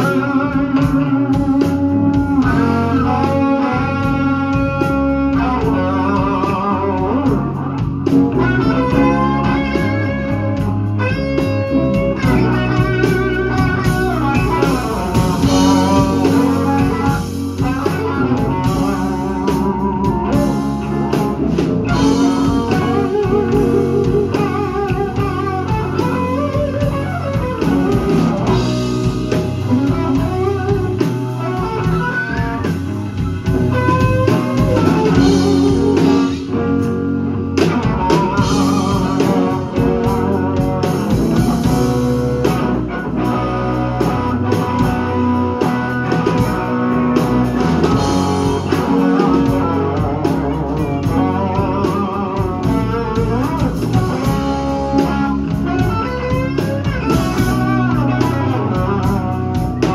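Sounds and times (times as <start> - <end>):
bass guitar: 0.0 - 59.9
drums: 0.0 - 59.9
electric guitar lead solo: 0.0 - 59.9.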